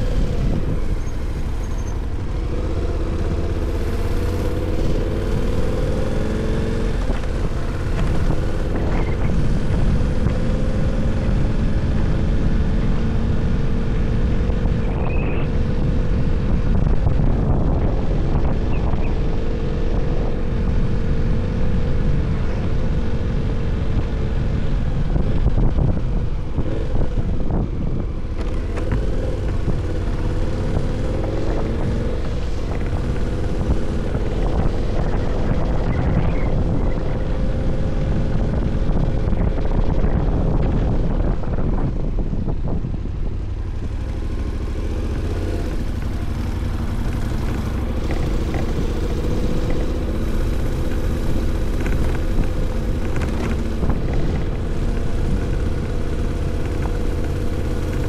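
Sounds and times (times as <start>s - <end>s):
motorcycle engine at low revs: 0.0s - 58.0s
steady low rumble: 0.0s - 58.0s.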